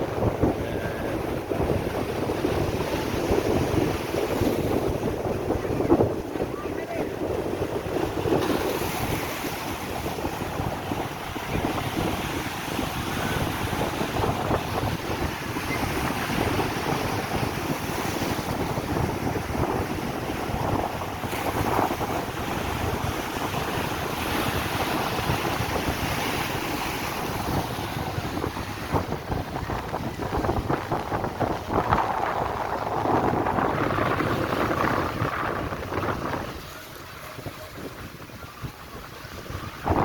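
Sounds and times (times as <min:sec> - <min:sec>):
sea waves breaking on shore: 0:00.0 - 0:40.0
wind buffeting microphone: 0:00.0 - 0:40.0.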